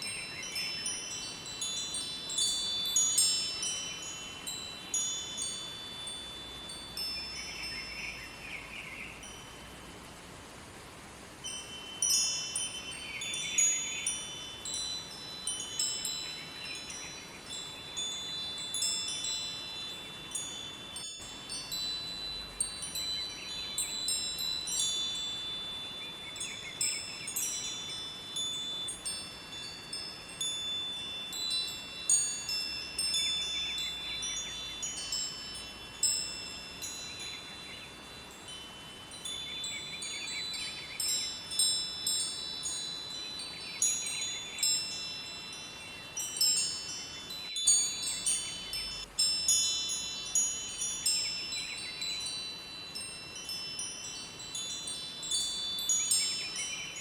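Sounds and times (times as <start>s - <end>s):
wind chimes ringing: 0.0s - 10.0s, 11.3s - 57.0s
faint rush of river water: 0.0s - 57.0s.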